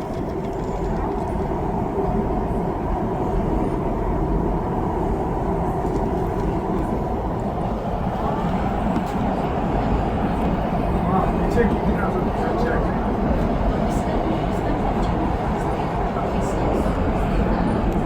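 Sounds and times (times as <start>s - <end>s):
train running at speed: 0.0s - 18.0s.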